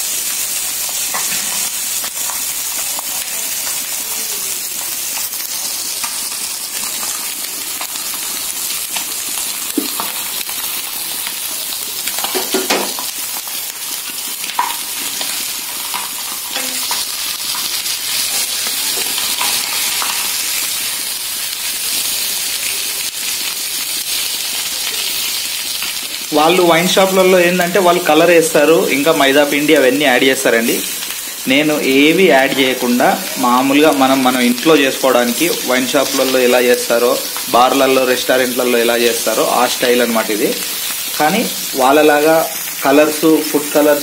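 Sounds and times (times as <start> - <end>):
fish sizzling in oil: 0.0 - 44.0.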